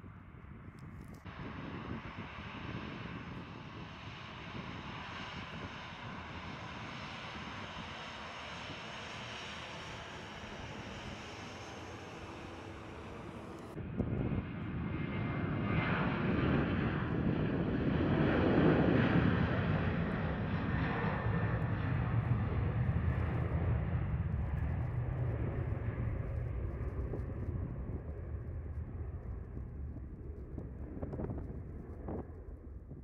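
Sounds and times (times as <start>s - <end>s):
jet engines roaring at takeoff: 0.0s - 33.0s.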